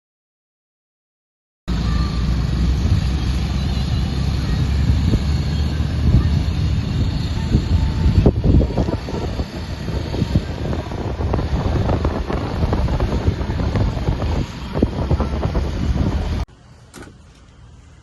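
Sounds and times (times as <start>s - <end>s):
vehicle rumbling: 1.7s - 18.0s
wind noise: 1.8s - 16.4s.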